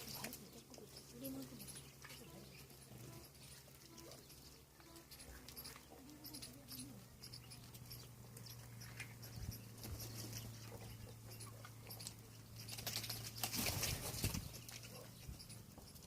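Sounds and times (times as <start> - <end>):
birds pecking grain on ground: 0.0 - 16.0
steady low hum: 0.0 - 16.0.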